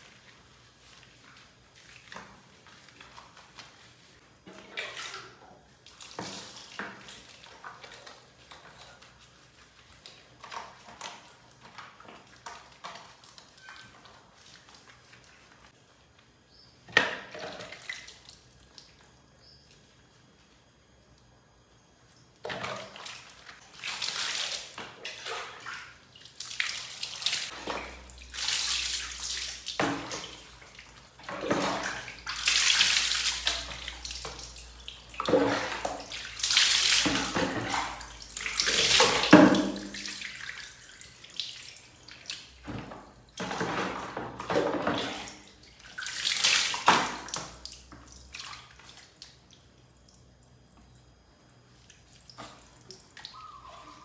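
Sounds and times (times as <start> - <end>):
water splashing on tiled floor: 0.0 - 15.8, 22.4 - 54.0.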